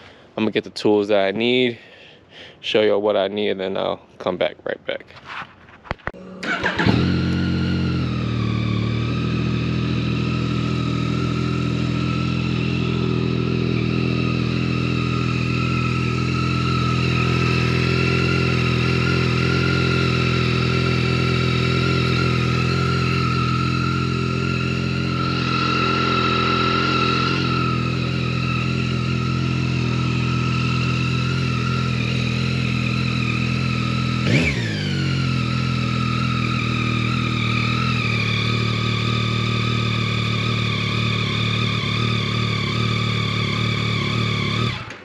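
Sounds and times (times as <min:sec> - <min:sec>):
motorcycle engine starting and idling: 0:06.1 - 0:45.0.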